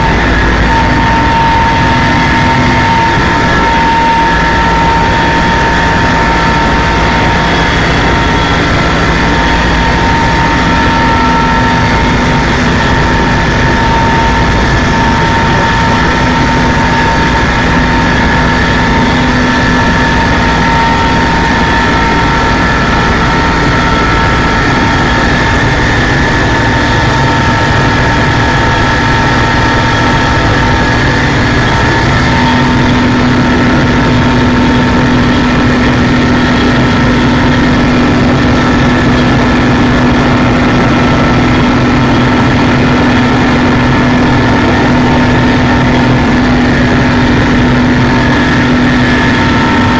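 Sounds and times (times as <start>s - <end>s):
helicopter engine and rotor: 0.0s - 49.9s.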